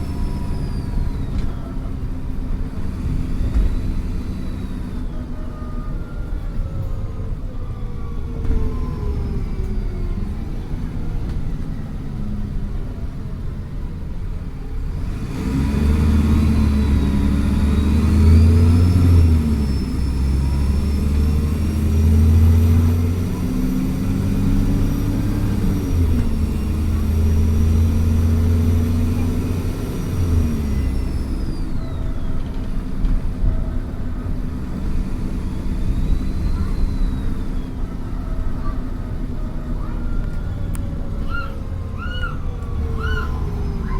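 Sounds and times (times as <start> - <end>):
bus diesel engine pulling hard: 0.0 - 43.9.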